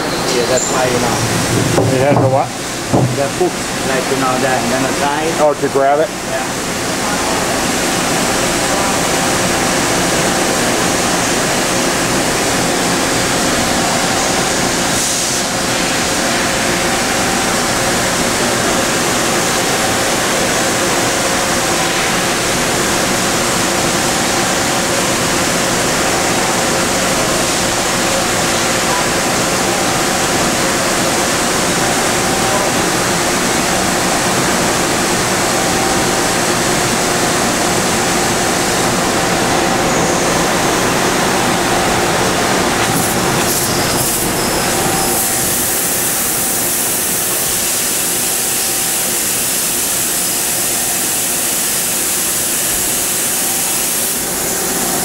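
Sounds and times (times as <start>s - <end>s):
machining center running: 0.0s - 55.0s.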